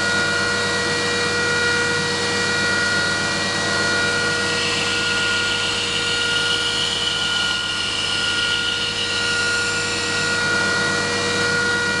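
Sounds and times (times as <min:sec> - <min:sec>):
belt grinder motor whine: 0:00.0 - 0:12.0.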